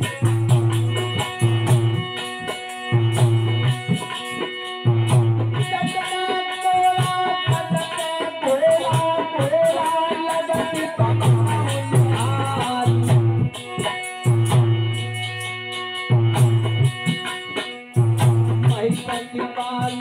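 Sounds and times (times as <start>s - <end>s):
hand drum playing: 0.0s - 7.8s, 8.6s - 20.0s
harmonium chords: 0.0s - 20.0s.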